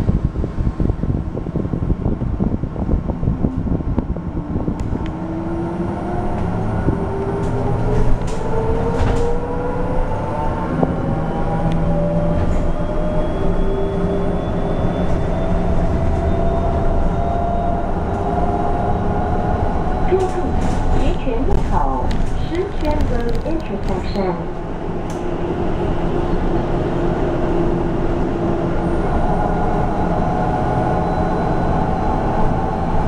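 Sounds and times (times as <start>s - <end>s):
road and tyre noise: 0.0s - 33.0s.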